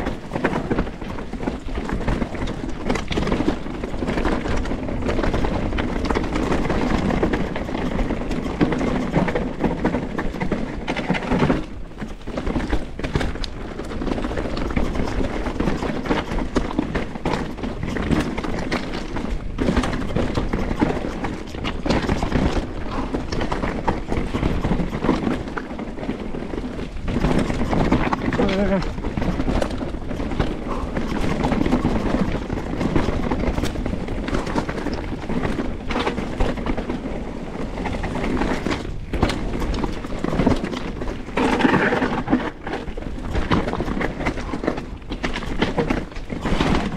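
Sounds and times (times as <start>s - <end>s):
mountain bike clattering on trail: 0.0s - 46.9s.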